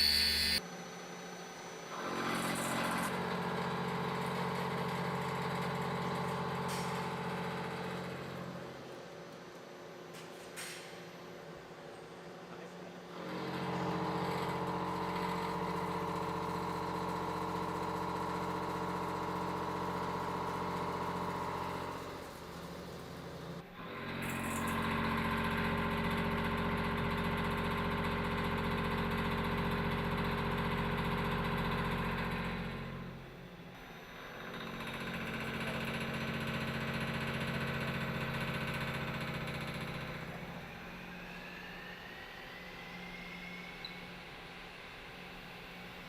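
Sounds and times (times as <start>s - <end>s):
machine hum and whine: 0.0s - 10.2s, 11.0s - 46.0s.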